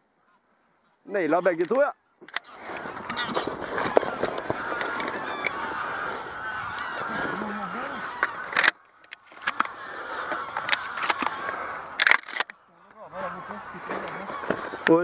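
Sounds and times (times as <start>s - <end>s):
geese honking: 0.2s - 15.0s.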